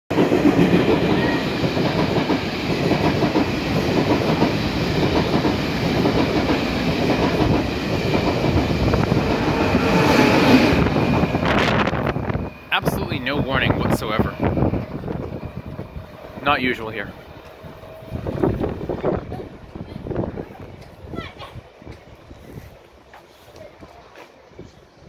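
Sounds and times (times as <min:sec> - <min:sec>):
train passing at speed: 0:00.1 - 0:25.0.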